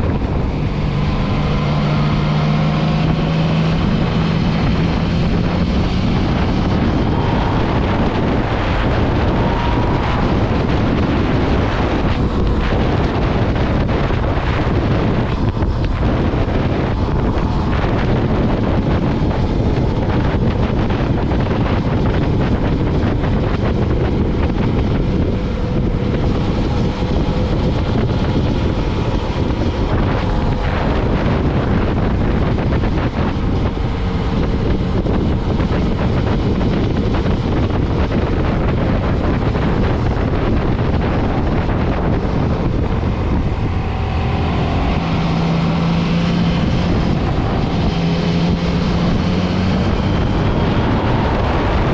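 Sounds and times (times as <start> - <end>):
motorcycle engine running: 0.0 - 51.9
wind noise on microphone: 0.0 - 51.9.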